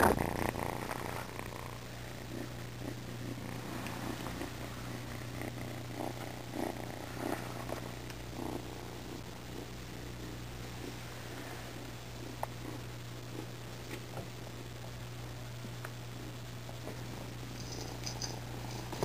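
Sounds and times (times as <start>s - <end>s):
kitten purring: 0.0s - 19.0s
steady low hum: 0.0s - 19.0s.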